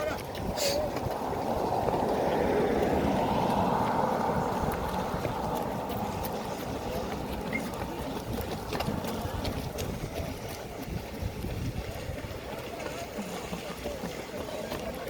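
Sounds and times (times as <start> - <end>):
wind rumble on microphone: 0.0 - 13.1.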